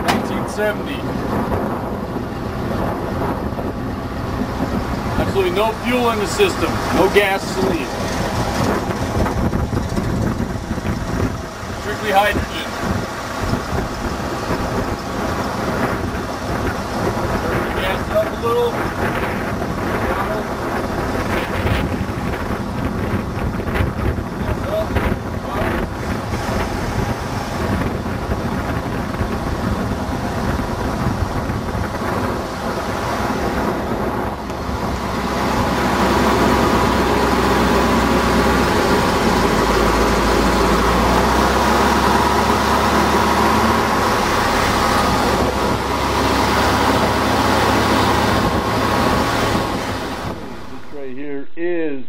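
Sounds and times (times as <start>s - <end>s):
car engine running: 0.0s - 51.2s.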